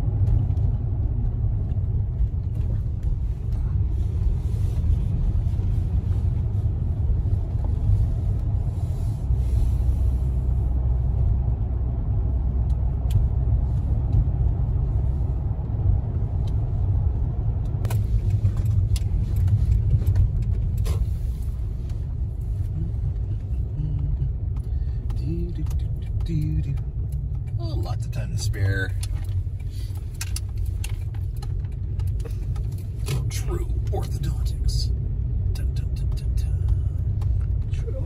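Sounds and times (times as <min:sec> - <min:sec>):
car engine rumble: 0:00.0 - 0:38.0
tyre road noise: 0:00.0 - 0:38.0.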